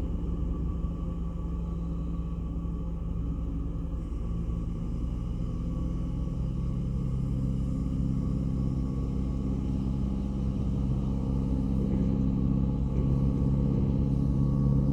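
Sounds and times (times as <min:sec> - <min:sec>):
ferry engines droning: 0:00.0 - 0:14.9.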